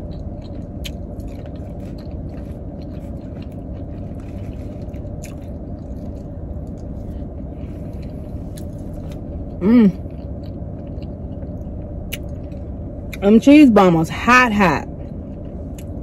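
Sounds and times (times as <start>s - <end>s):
chewing food: 0.0s - 13.2s, 15.0s - 16.0s
idling car hum: 0.0s - 16.0s.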